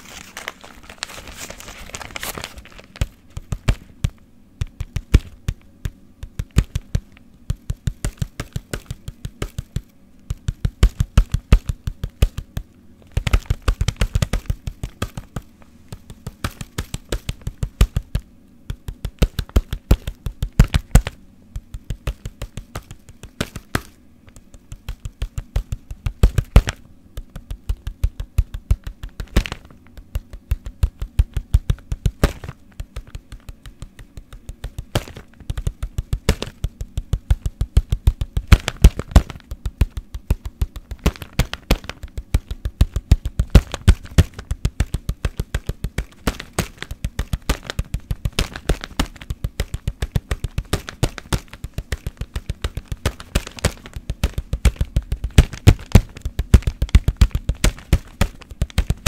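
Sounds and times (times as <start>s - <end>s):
fast tapping on hard objects: 0.0s - 59.0s.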